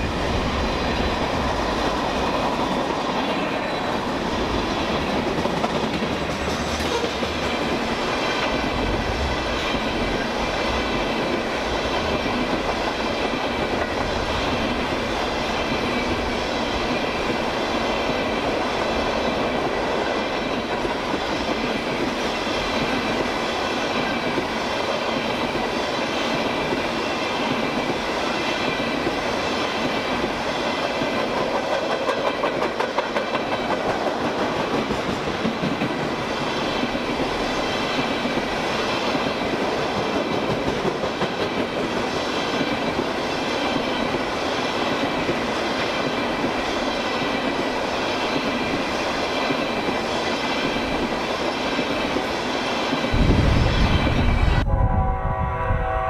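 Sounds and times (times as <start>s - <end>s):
train wheels clattering on rails: 0.0s - 54.6s.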